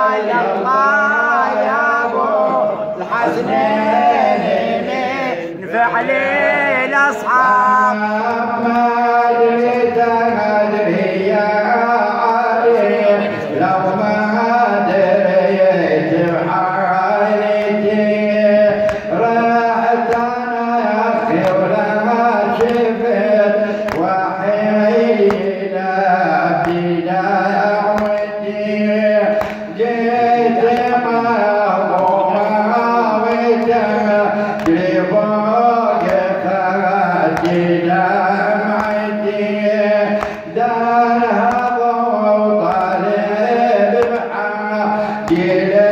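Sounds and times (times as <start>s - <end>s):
man chanting a lament: 0.0s - 45.9s.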